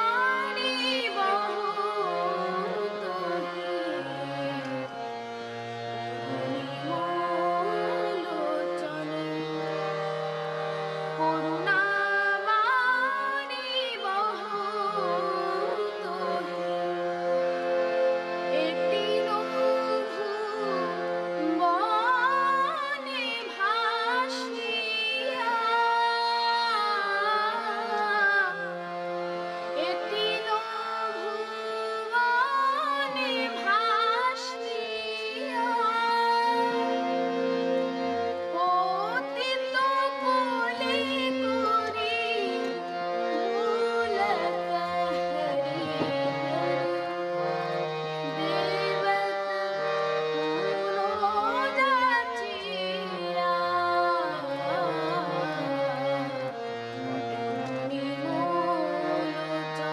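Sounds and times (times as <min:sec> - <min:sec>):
boy singing: 0:00.0 - 0:04.0, 0:06.4 - 0:09.2, 0:11.2 - 0:17.0, 0:18.5 - 0:28.7, 0:29.8 - 0:37.0, 0:38.5 - 0:49.8, 0:50.6 - 0:56.5, 0:57.7 - 0:59.9
harmonium sustained notes: 0:00.0 - 0:59.9.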